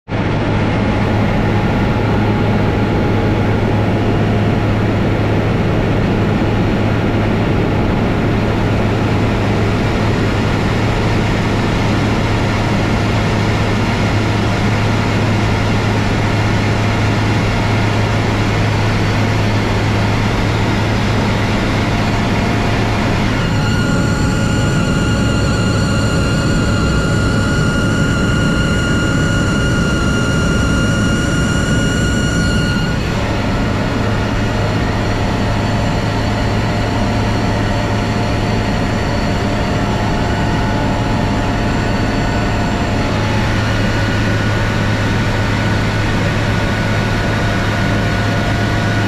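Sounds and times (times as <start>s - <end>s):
propeller plane engine drone: 0.0s - 49.0s.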